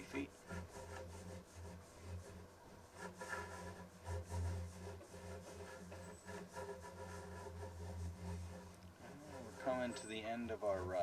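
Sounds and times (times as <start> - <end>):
camera scraping along a pipe: 0.0 - 11.0
steady low hum: 0.0 - 11.0.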